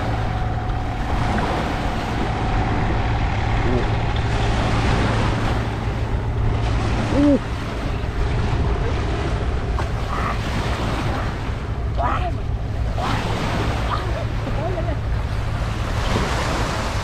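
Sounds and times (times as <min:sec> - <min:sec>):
small waves lapping: 0:00.0 - 0:17.0.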